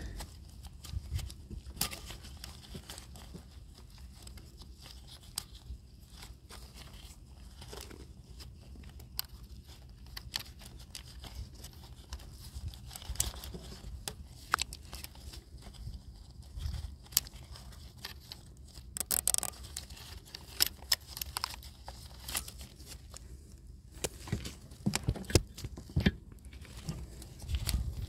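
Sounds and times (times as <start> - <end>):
clicks and crinkles of wiring connector: 0.0 - 28.0
low steady hum: 0.0 - 28.0.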